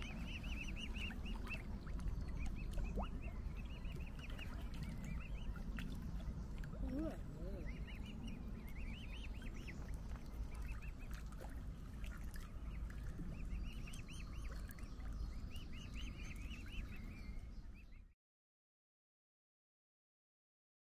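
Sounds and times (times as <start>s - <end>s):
birds chirping: 0.0s - 11.2s, 12.5s - 18.1s
steady low rumble: 0.0s - 17.9s.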